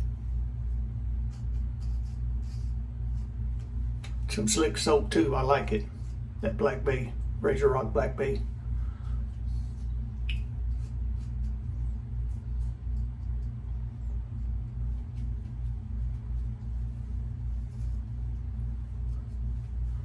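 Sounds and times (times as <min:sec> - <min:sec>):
pulsing low hum: 0:00.0 - 0:20.0.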